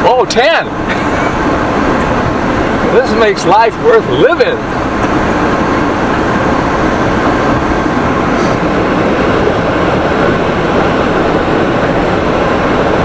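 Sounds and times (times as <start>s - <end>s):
vehicle rumble with tyre chains: 0.0s - 13.0s.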